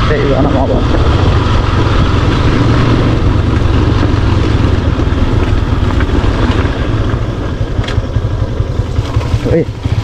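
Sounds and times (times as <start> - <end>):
motorcycle engine running: 0.0 - 10.0
road noise rumble: 0.0 - 10.0.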